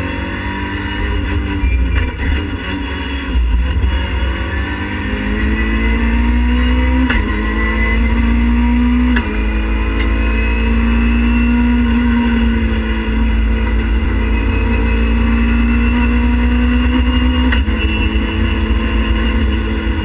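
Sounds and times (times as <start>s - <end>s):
racing car engine accelerating: 0.0s - 20.0s.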